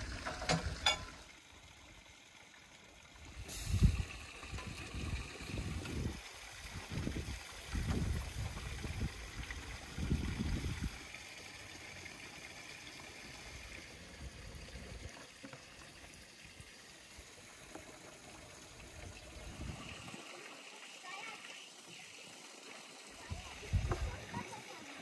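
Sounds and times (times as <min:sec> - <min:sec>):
running water rushing: 0:00.0 - 0:25.0.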